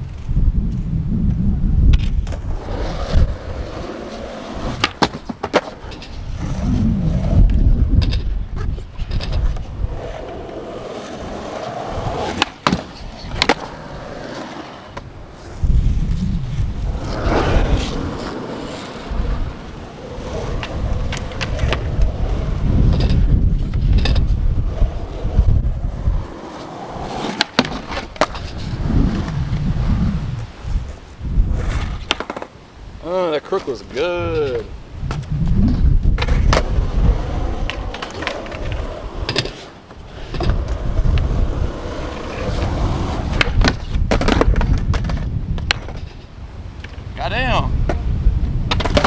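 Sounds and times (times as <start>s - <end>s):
wind buffeting microphone: 0.0s - 5.1s, 5.8s - 33.0s, 33.9s - 49.0s
skateboard wheels rolling on concrete: 0.0s - 49.0s
skateboard clacks: 1.3s - 6.6s, 7.3s - 15.7s, 16.6s - 29.8s, 30.4s - 32.6s, 33.4s - 49.0s.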